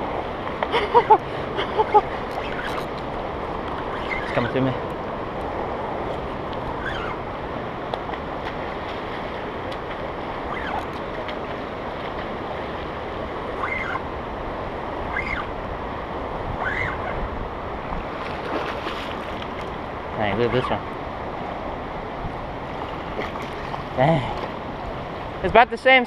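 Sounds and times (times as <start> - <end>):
wind on microphone: 0.0 - 25.5
river water rushing: 0.0 - 26.0.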